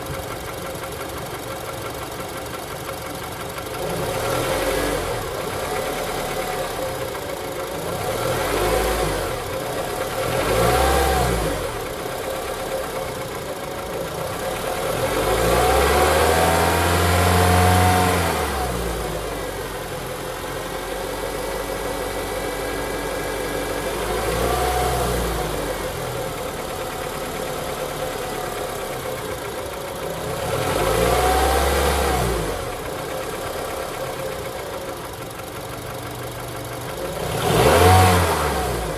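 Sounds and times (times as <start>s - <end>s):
car engine idling and revving: 0.0s - 38.9s
engine knocking: 0.0s - 38.9s.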